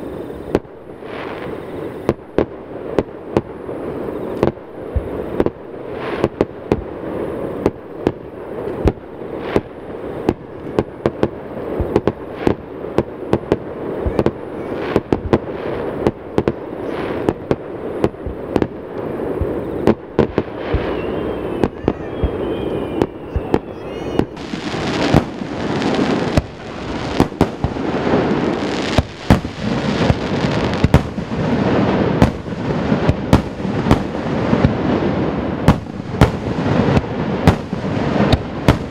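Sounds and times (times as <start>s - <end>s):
firework bursts and bangs: 0.0s - 38.9s
firework crackling: 0.0s - 38.9s
firework whistles: 0.0s - 38.9s.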